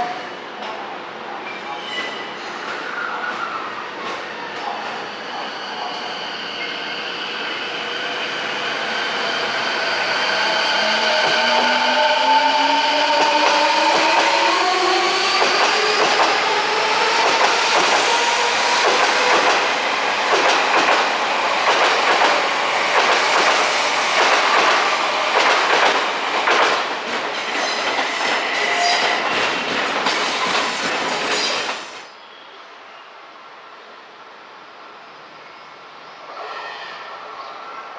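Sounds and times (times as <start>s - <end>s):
train running noise: 0.0s - 32.1s.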